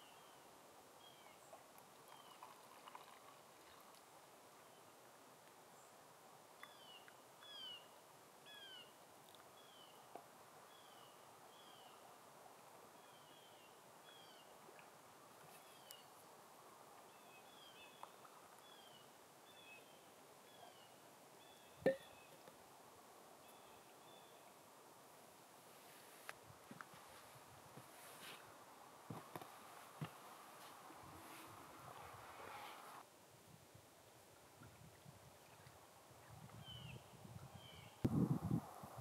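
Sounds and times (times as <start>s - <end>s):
quiet forest background: 0.0s - 39.0s.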